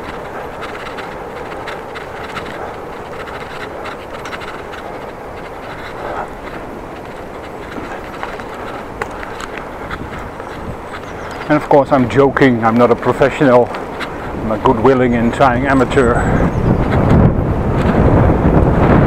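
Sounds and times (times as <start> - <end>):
bicycle clicks and rattles: 0.0 - 19.0
rushing of tyres and air: 0.0 - 19.0.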